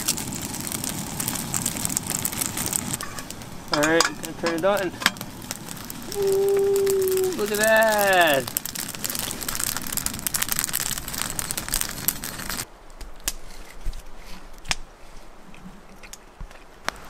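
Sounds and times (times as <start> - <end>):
campfire crackling and popping: 0.0 - 14.9, 15.8 - 17.0.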